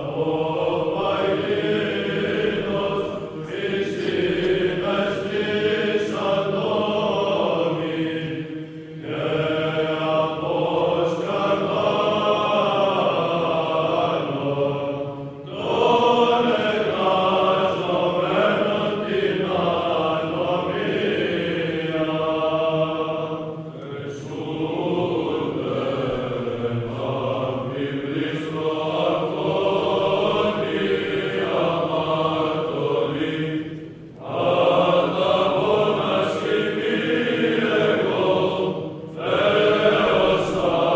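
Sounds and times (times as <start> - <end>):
chant sung in long phrases: 0.0 - 40.9.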